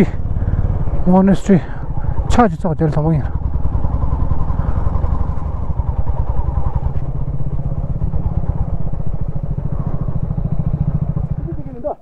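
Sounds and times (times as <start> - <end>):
engine running with rapid pulsing: 0.0 - 12.0.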